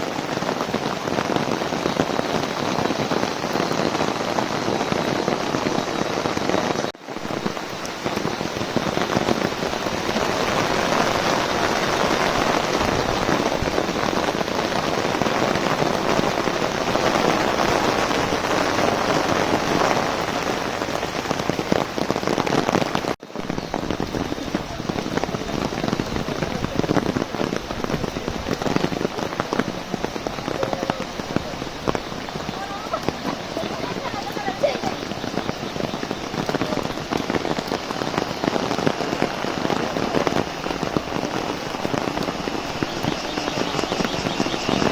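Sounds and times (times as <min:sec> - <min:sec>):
heavy rain on an umbrella: 0:00.0 - 0:44.9.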